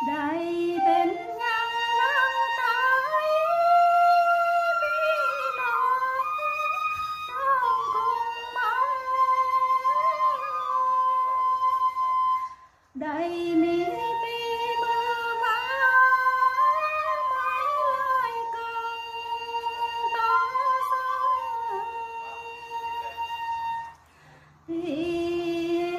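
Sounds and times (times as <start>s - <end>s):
woman singing long wavering notes: 0.0s - 23.9s, 24.7s - 25.9s.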